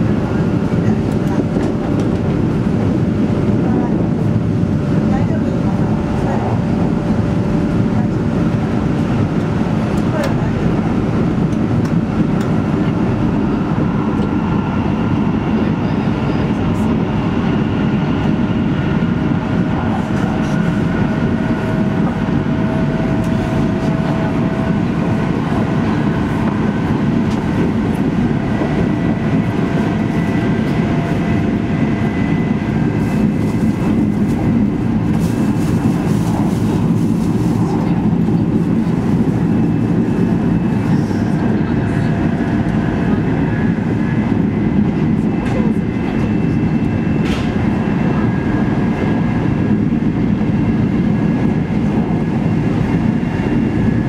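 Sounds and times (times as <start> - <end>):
train cabin rumble: 0.0 - 54.0.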